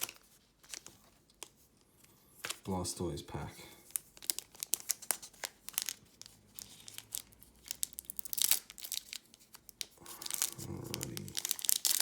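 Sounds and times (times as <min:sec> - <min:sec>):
foil wrapper crinkling and tearing: 0:00.0 - 0:01.6, 0:03.8 - 0:12.0.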